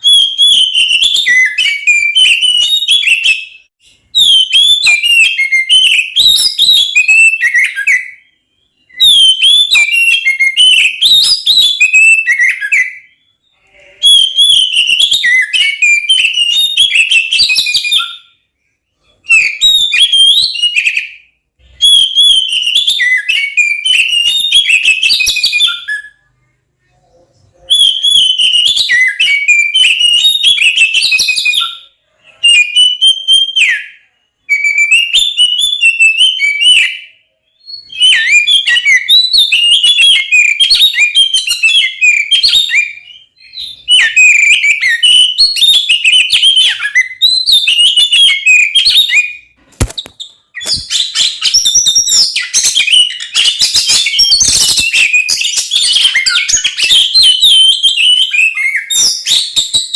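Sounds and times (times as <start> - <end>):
bird singing whistled phrases: 0.0 - 59.9.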